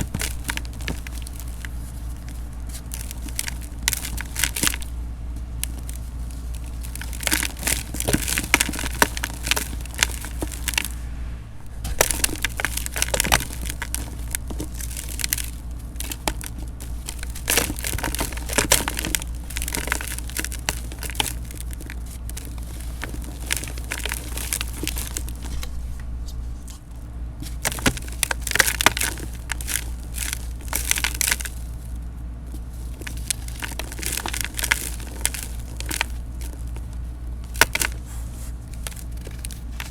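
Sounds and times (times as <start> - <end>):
dried cement crunching in a pot: 0.0 - 39.9.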